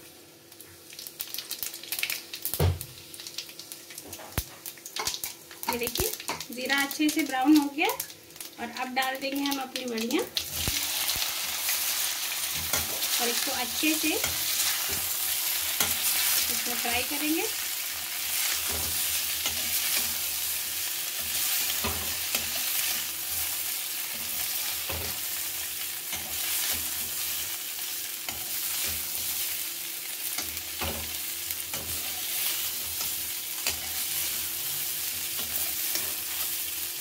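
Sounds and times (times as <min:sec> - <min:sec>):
fritters sizzling in hot oil: 0:00.0 - 0:37.0.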